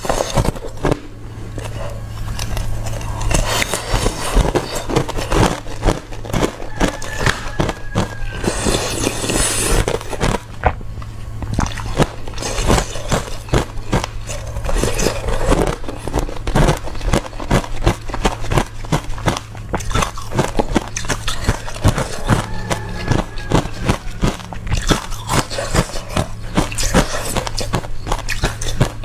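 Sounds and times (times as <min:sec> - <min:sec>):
person crunching ice: 0:00.0 - 0:10.8, 0:11.4 - 0:29.0
steady low hum: 0:00.0 - 0:29.0.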